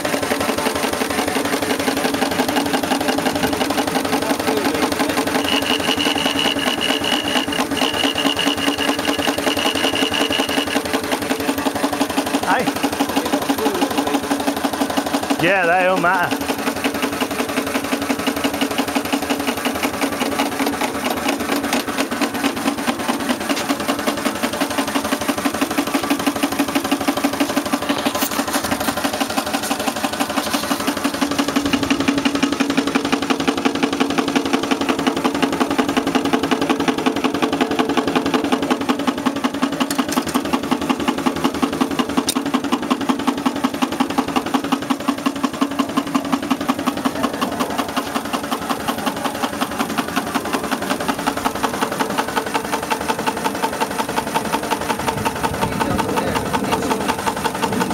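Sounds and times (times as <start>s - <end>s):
steam engine running: 0.0s - 57.9s.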